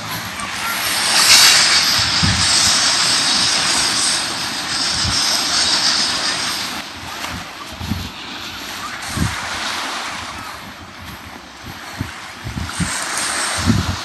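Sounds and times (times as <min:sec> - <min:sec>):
ocean wave breaking: 0:00.0 - 0:14.0.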